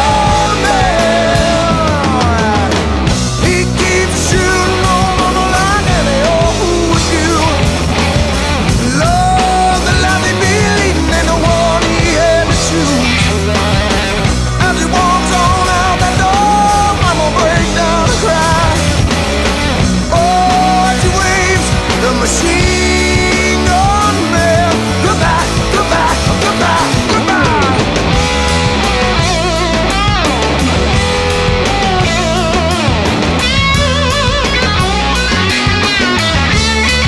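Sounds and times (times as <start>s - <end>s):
distorted electric guitar lead: 0.0s - 37.0s
heavy metal band playing: 0.0s - 37.0s.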